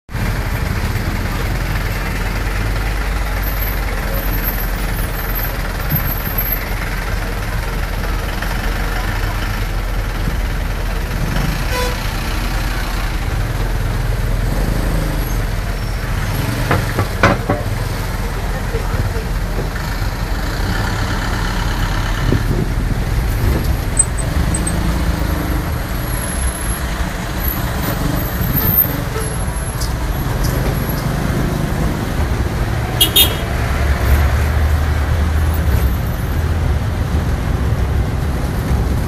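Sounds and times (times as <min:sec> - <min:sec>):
truck engine and road rumble: 0:00.1 - 0:39.0.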